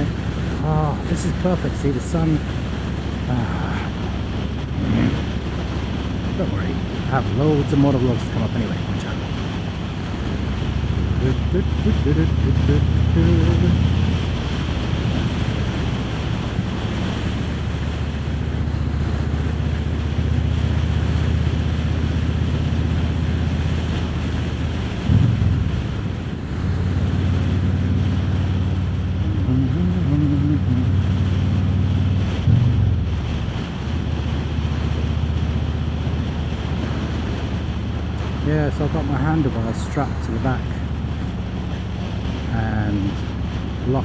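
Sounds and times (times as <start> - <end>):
wind rushing over microphone: 0.0 - 44.0.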